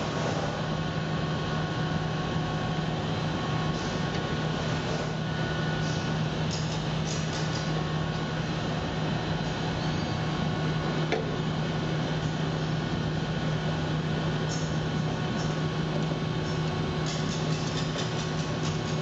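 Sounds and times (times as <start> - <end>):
equipment humming and rushing: 0.0 - 19.0.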